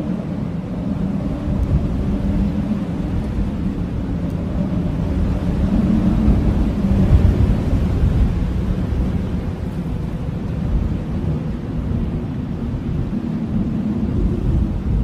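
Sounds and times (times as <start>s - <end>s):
blizzard wind rumbling: 0.0s - 15.0s.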